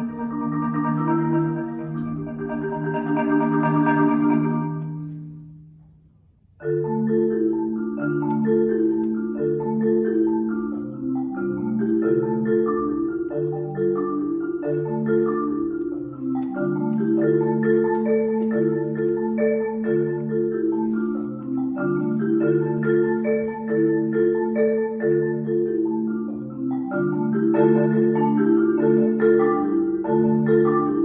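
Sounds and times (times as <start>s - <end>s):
marimba played with mallets: 0.0s - 31.0s.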